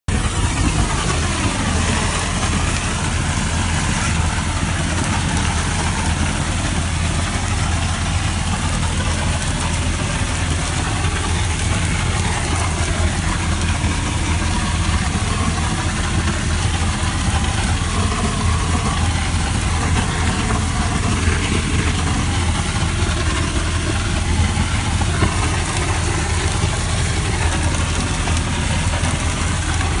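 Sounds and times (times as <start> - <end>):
air compressor engine drone: 0.0 - 30.0.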